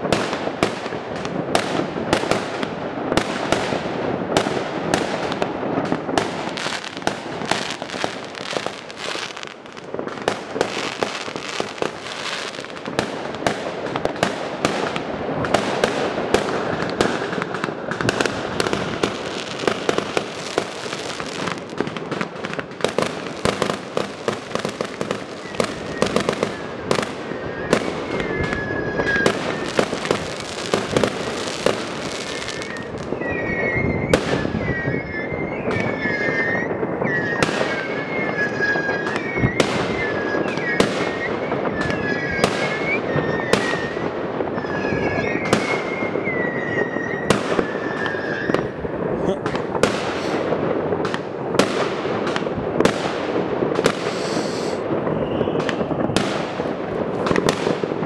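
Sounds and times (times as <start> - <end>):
fireworks popping and banging: 0.0 - 58.0
firework whistles: 1.5 - 58.0.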